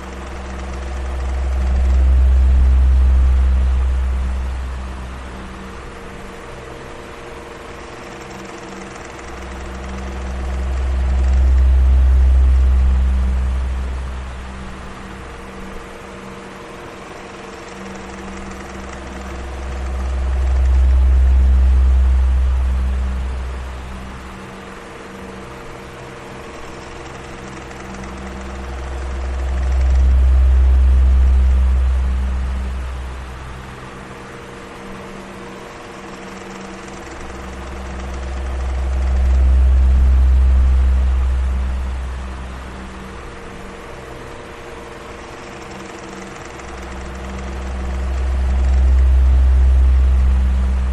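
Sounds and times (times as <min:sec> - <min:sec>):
electric fan humming: 0:00.0 - 0:50.9.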